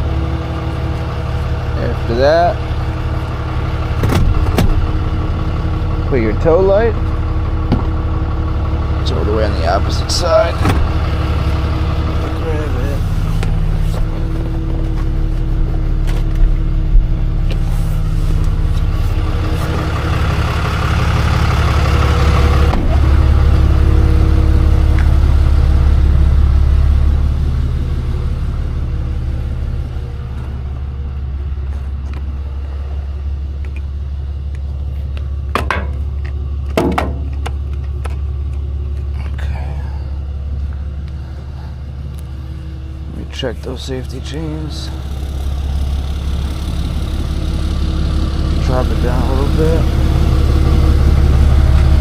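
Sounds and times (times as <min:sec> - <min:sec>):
truck engine running: 0:00.0 - 0:52.0.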